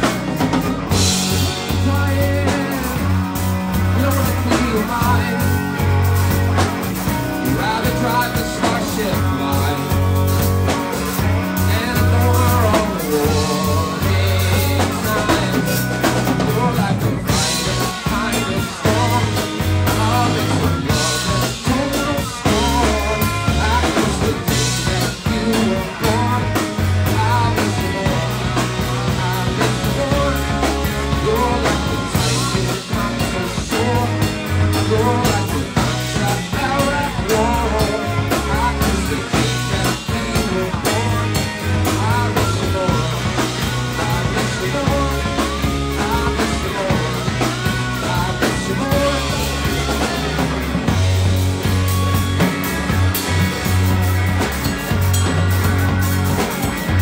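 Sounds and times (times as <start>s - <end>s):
bass line: 0.0s - 57.0s
drum kit: 0.0s - 57.0s
live rock band playing: 0.0s - 57.0s.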